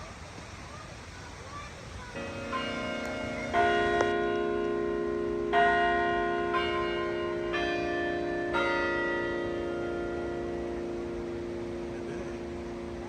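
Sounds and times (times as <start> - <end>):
carillon bells playing a slow tune: 2.2 - 13.0.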